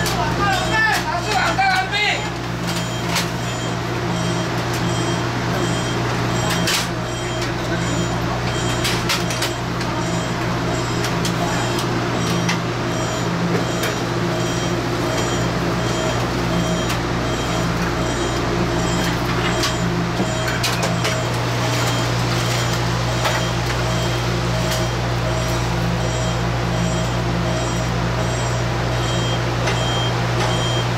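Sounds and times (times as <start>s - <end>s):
train carriage equipment humming: 0.0s - 30.9s.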